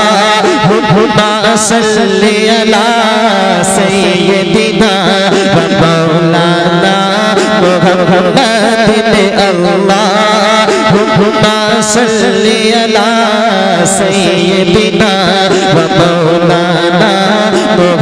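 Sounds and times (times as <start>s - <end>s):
man singing into a microphone: 0.0s - 18.0s
steady drone: 0.0s - 18.0s.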